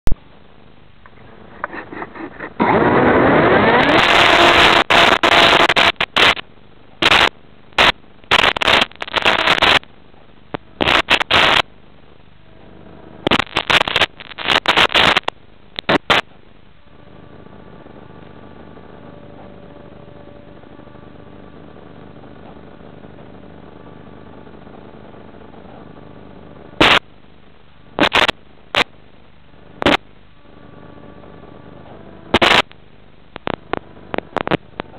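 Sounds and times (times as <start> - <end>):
faint whine: 0.0 - 34.9
motor noise: 1.1 - 6.4, 7.0 - 9.8, 10.5 - 11.6, 12.4 - 27.0, 29.6 - 34.9.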